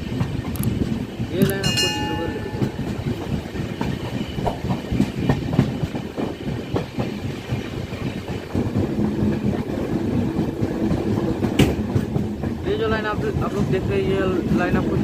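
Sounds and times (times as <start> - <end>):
rail joint clicks: 0.0 - 15.0
train wheels rumbling on rails: 0.0 - 15.0.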